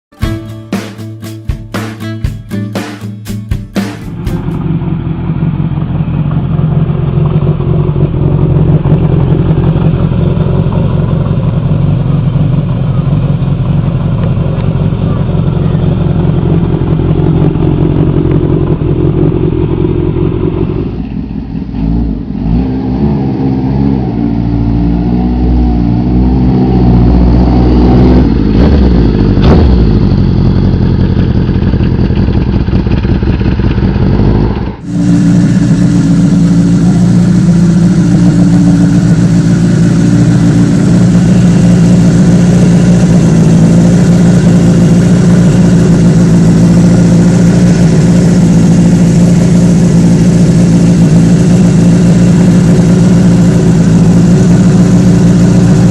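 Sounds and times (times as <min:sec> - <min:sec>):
motorcycle engine revving: 0:03.8 - 0:55.9.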